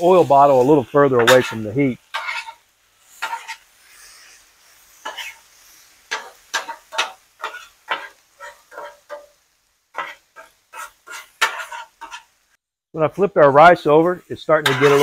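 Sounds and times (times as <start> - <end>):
metal spatulas scraping on griddle: 0.0 - 12.4, 14.4 - 15.0
faint sizzle: 0.0 - 15.0.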